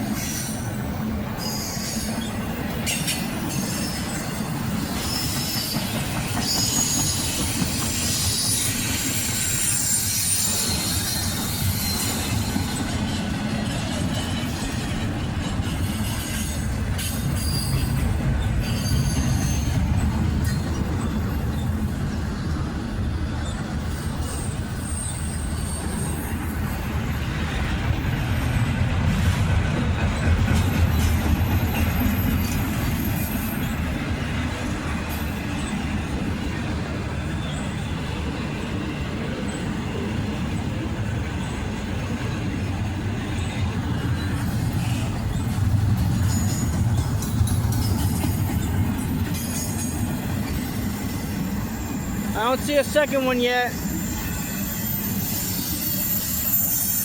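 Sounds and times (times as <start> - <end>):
freight train rumbling past: 0.0 - 57.0
train wheel squeal: 0.0 - 57.0.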